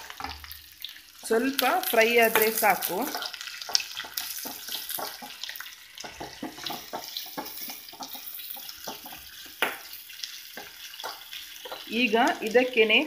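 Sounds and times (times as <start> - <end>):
onions sizzling in oil: 0.0 - 13.0
spoon scraping pan: 2.0 - 12.7.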